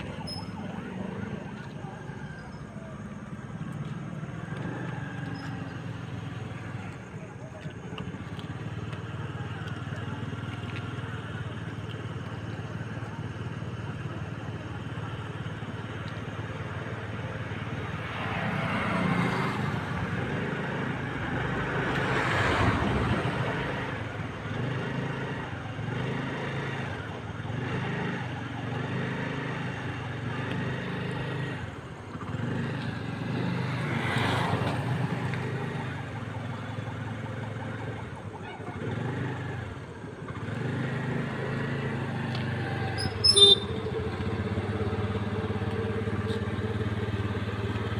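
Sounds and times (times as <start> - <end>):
low engine hum: 0.0 - 47.9
vehicles passing: 0.0 - 47.9.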